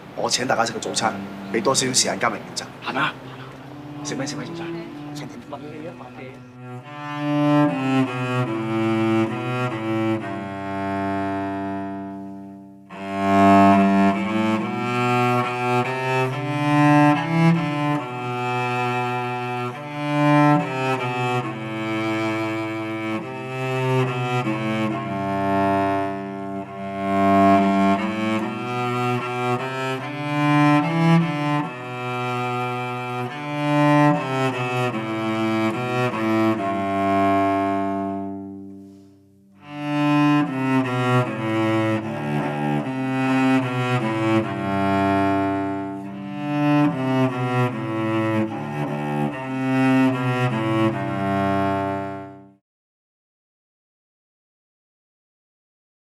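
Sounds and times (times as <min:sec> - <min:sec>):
solo cello bowed melody: 0:00.0 - 0:52.6.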